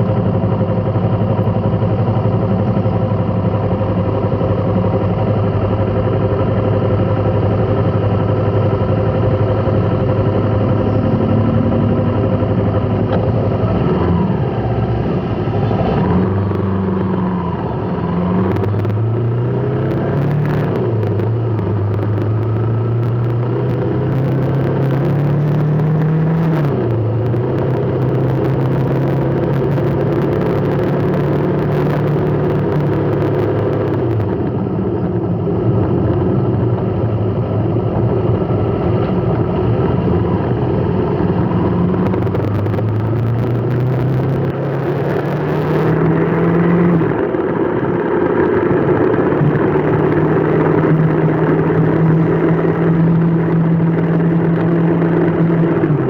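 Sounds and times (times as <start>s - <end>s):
vehicle engine idling and revving: 0.0s - 56.0s.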